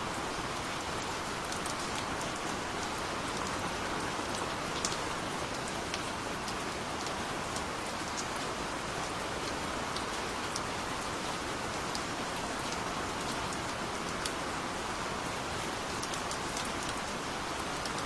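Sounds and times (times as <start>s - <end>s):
gentle rain: 0.0s - 18.0s.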